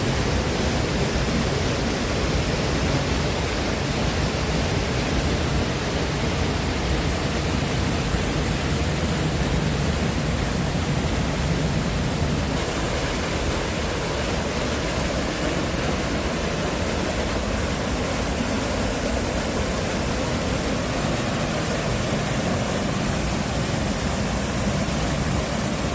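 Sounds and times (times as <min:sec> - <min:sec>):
water rushing: 0:00.0 - 0:25.9.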